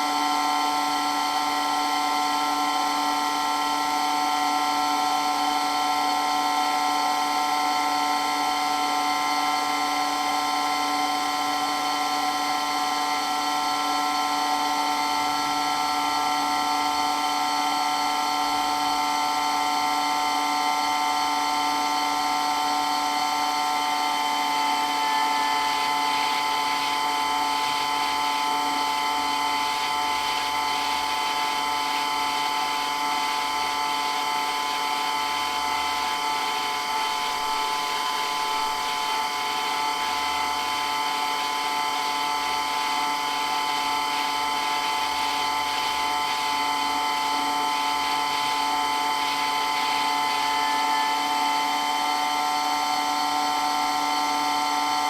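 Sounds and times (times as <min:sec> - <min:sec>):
water pump motor whine: 0:00.0 - 0:55.0.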